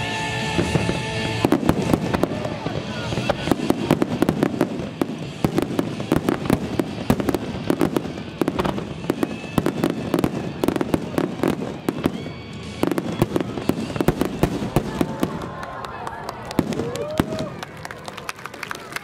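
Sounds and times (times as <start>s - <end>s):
fireworks bangs and crackles: 0.0s - 18.2s.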